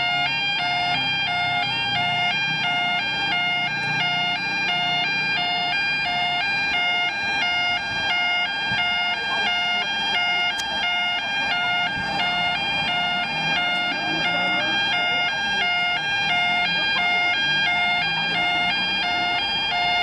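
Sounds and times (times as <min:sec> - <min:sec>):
level crossing alarm two-tone yodel: 0:00.0 - 0:20.0.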